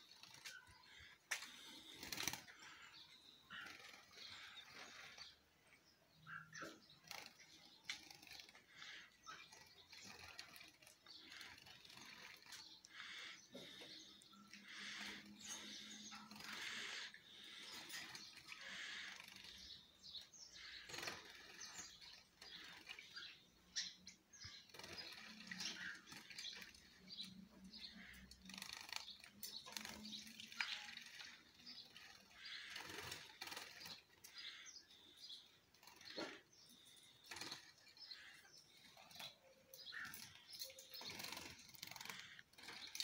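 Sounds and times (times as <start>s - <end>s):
wing flutters and rustles: 0.0s - 5.4s, 6.4s - 13.8s, 14.6s - 43.0s
finches chirping: 0.0s - 43.0s.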